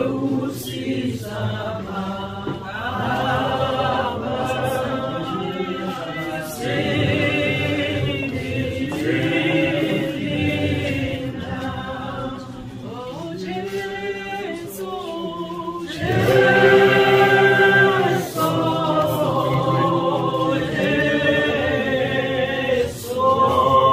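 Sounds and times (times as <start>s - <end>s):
group singing hymn a cappella: 0.0s - 23.9s.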